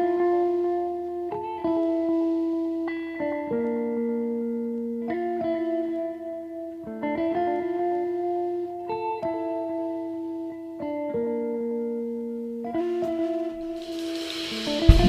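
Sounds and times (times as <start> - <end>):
slow plucked melody: 0.0 - 15.0.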